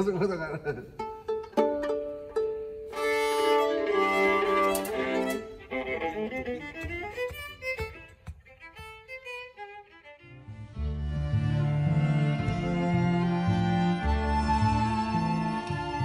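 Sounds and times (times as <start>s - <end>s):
bowed strings playing: 1.0s - 16.0s.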